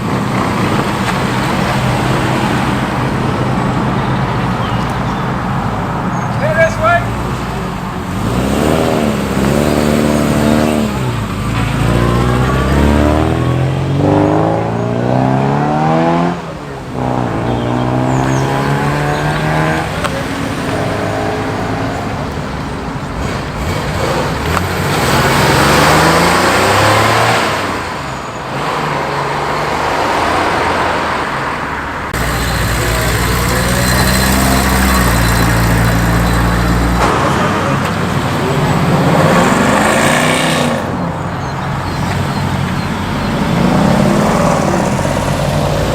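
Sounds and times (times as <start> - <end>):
car engines accelerating: 0.0 - 45.9
car passing with tyre noise: 0.0 - 45.9.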